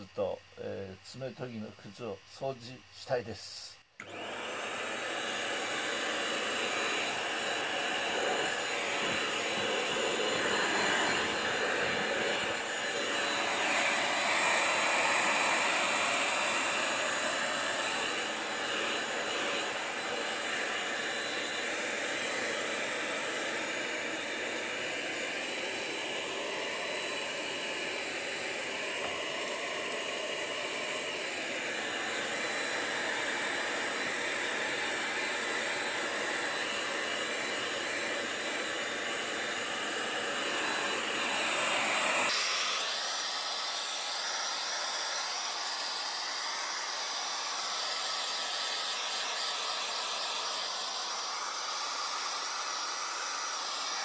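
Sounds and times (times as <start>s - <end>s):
handheld vacuum cleaner running: 4.0s - 54.0s.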